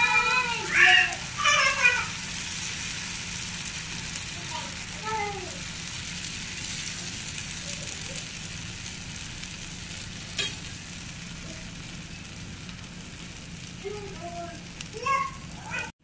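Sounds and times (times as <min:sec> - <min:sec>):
batter sizzling in a pan: 0:00.0 - 0:15.9.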